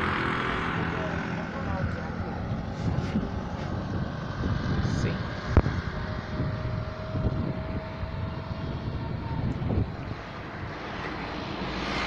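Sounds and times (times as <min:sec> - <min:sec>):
vehicle engine and tyres on road: 0:00.0 - 0:12.0
wind rumble on microphone: 0:00.0 - 0:12.0.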